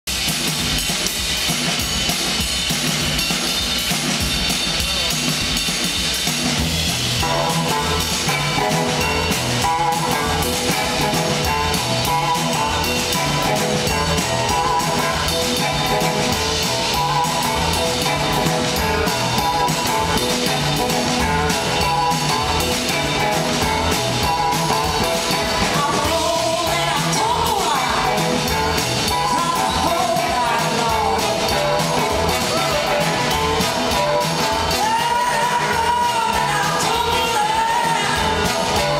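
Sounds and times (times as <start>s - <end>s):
drum kit beat: 0.0s - 38.9s
live blues-rock band playing: 0.1s - 38.9s
electric guitars: 5.1s - 38.9s
saxophone: 7.2s - 38.9s.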